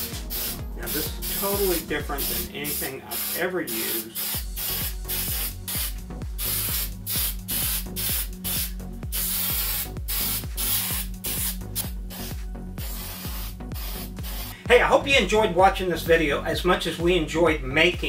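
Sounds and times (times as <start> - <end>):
spray can hissing bursts: 0.0 - 14.6.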